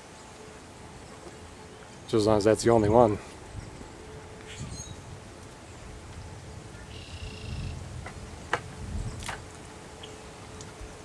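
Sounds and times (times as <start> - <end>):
distant tornado siren: 0.0 - 11.0
wind gusts on microphone: 2.1 - 11.0.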